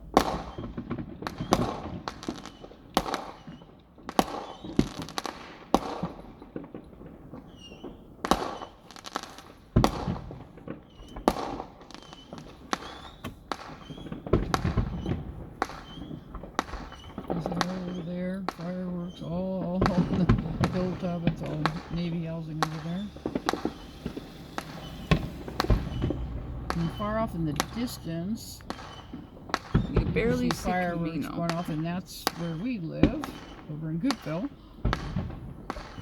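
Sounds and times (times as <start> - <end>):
fireworks bangs and crackles: 0.0 - 36.0
heavy firework booms: 0.0 - 36.0.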